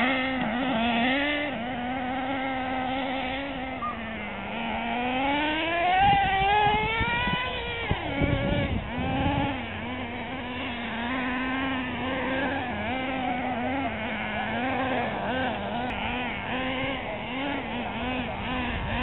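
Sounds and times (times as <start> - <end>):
rc car motors whining: 0.0 - 19.0.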